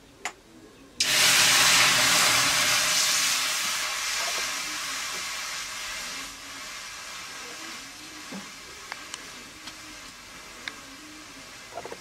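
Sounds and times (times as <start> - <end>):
liquid sizzling in hot wok: 1.0 - 12.0.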